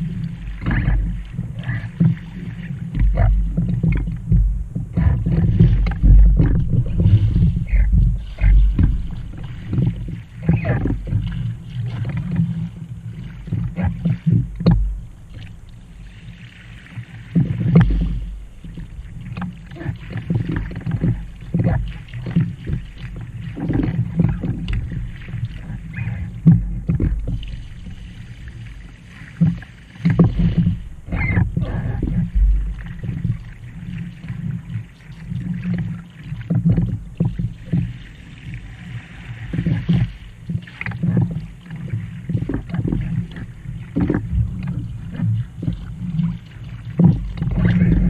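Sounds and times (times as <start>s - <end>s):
constant low rumble: 0.0s - 48.0s
kayak hull moving through water: 0.0s - 48.0s
paddle splashing in water: 0.0s - 48.0s.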